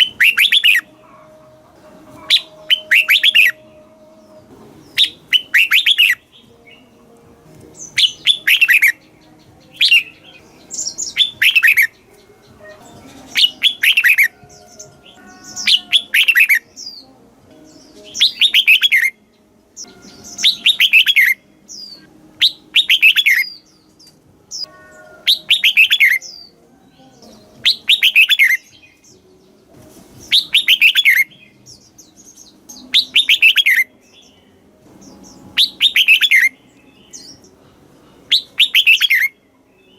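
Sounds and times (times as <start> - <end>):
bird singing rapid notes: 0.0 - 1.0, 2.2 - 3.8, 4.8 - 7.0, 7.7 - 17.1, 17.7 - 19.2, 19.8 - 29.5, 30.2 - 37.5, 38.3 - 39.9.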